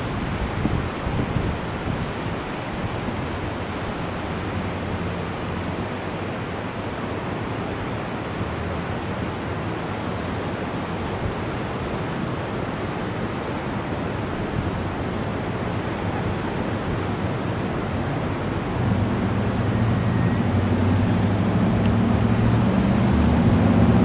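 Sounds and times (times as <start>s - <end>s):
surf rushing: 0.0s - 24.0s
wind: 0.0s - 24.0s.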